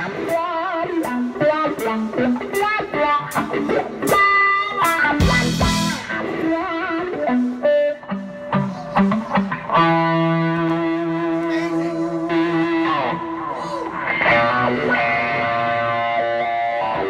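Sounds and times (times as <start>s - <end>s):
electric guitar blues lead: 0.0s - 17.0s.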